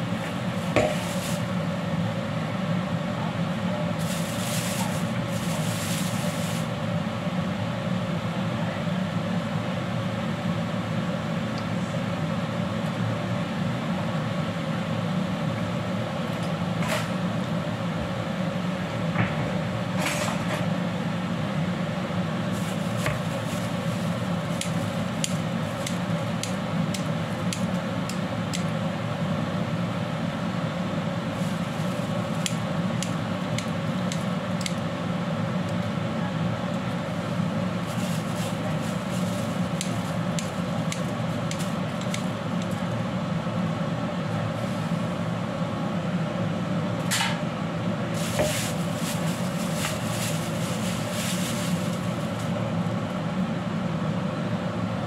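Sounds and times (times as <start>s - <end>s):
appliances humming: 0.0s - 54.4s.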